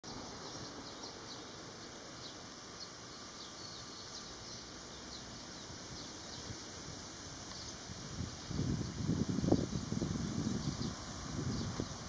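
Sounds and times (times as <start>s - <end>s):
steady background hiss: 0.1s - 12.0s.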